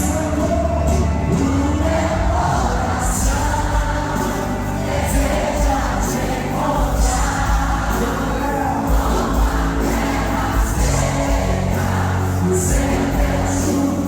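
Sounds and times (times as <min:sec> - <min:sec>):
band accompaniment: 0:00.0 - 0:14.0
group singing worship song: 0:00.0 - 0:14.0
steady bass: 0:00.0 - 0:14.0.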